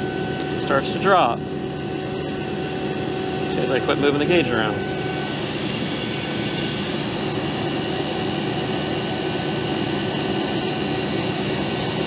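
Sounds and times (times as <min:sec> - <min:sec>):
vacuum pump running: 0:00.0 - 0:12.0.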